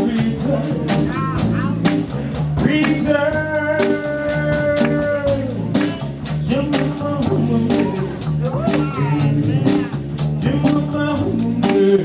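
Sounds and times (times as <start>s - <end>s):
jazz band playing: 0.0s - 12.0s.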